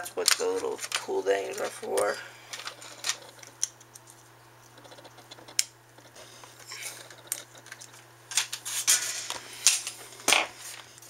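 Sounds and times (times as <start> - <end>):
hands handling small parts: 0.0 - 11.0.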